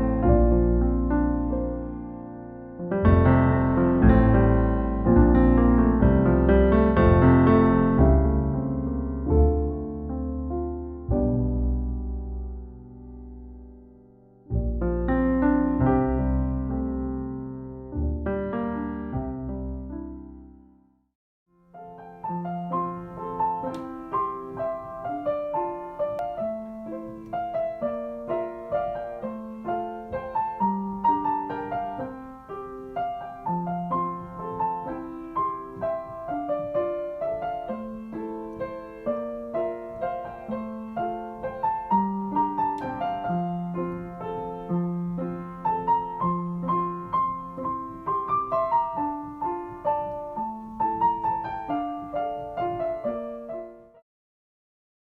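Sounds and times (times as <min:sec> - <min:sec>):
gentle piano music: 0:00.0 - 0:54.0.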